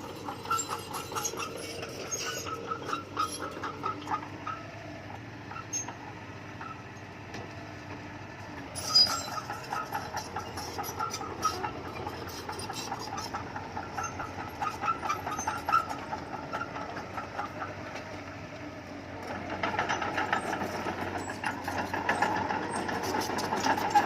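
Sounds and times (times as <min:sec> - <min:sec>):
steel tracks clanking and squeaking: 0:00.0 - 0:06.8, 0:08.6 - 0:18.2, 0:19.2 - 0:24.0
bulldozer diesel engine running: 0:00.0 - 0:24.0.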